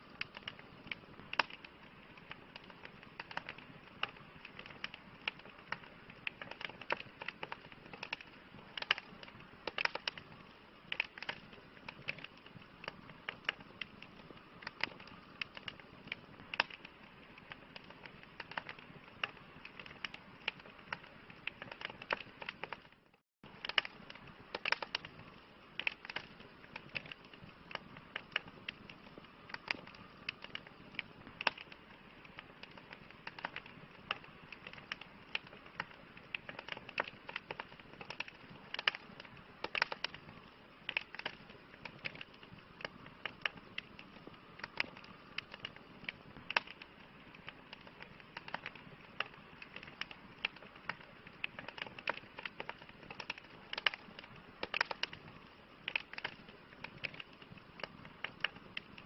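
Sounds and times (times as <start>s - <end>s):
campfire crackling and popping: 0.0s - 59.0s
hiss of burning wood: 0.0s - 59.0s.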